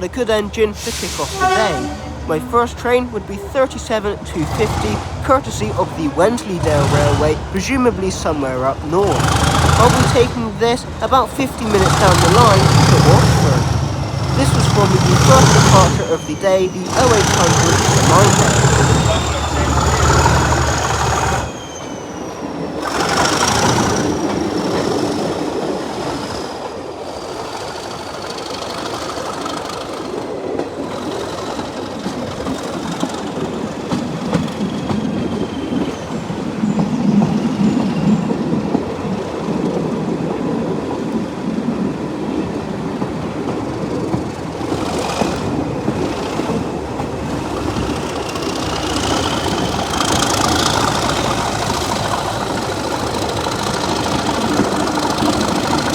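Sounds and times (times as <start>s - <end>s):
train rumbling on rails: 0.0s - 55.9s.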